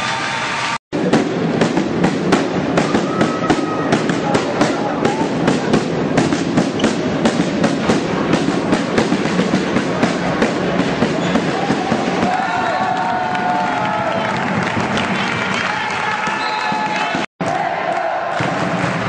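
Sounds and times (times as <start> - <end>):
crowd din: 0.9 - 19.0
sharp cracks or claps: 1.0 - 19.0.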